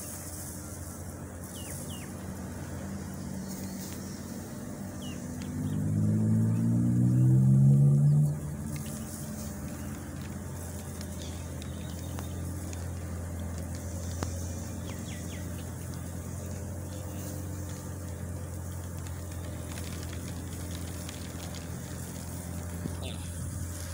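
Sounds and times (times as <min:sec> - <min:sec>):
distant road traffic hum: 0:00.0 - 0:23.9.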